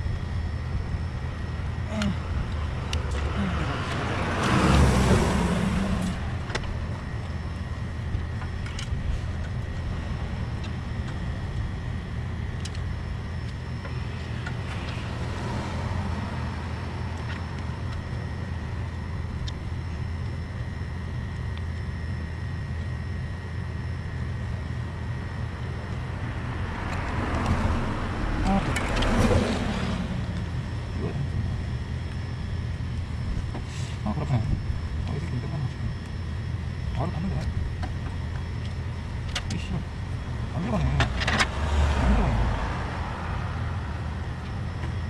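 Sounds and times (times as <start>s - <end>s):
high whine: 0.0s - 45.0s
low mechanical hum: 0.0s - 45.0s.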